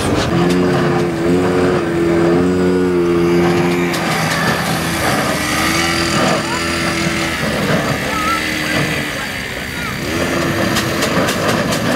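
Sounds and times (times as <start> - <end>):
constant low rumble: 0.0 - 11.9
engine hum: 0.0 - 11.9.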